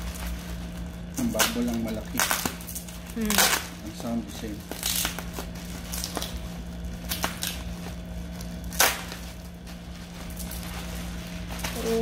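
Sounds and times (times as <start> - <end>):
bubble wrap crinkling: 0.0 - 12.0
bubble wrap snaps: 0.0 - 12.0.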